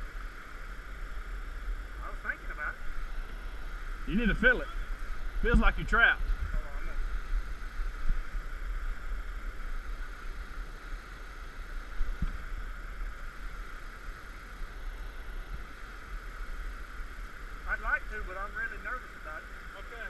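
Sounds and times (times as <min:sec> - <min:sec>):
low microphone rumble: 0:00.0 - 0:19.8.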